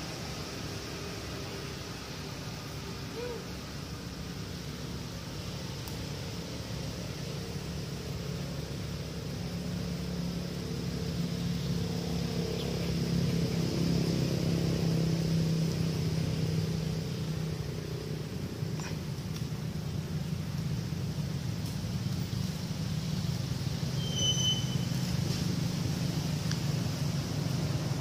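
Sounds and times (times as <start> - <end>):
background hiss: 0.0 - 28.0
low engine hum: 0.0 - 28.0.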